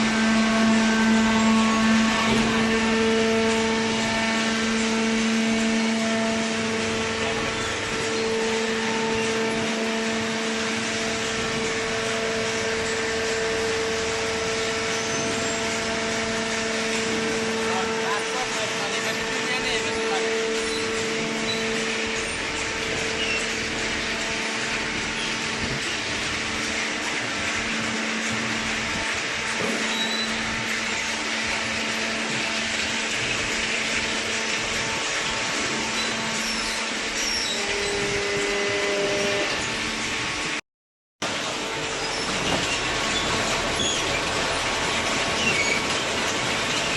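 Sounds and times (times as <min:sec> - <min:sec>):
hydraulic power unit humming: 0:00.0 - 0:40.6, 0:41.2 - 0:46.9.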